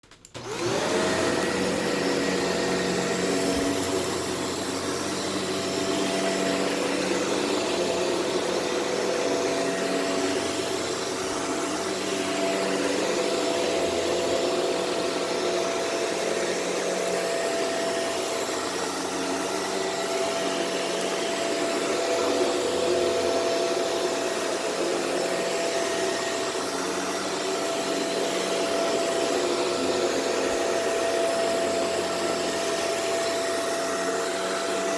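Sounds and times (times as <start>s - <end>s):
vacuum cleaner motor running: 0.2s - 34.9s.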